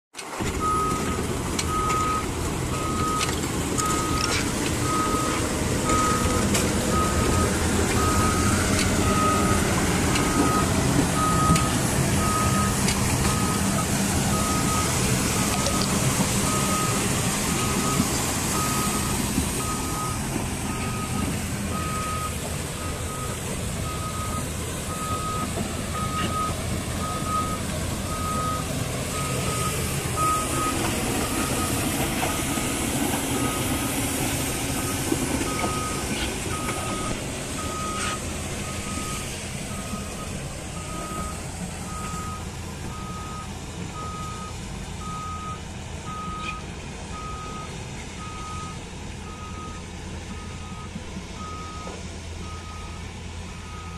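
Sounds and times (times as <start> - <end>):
diesel engine running: 0.2 - 53.9
travel alarm beeping: 0.5 - 33.9, 34.9 - 53.9.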